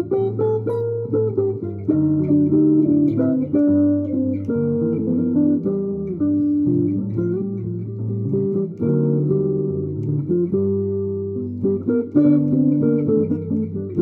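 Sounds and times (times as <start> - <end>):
guitar melody: 0.0 - 14.0.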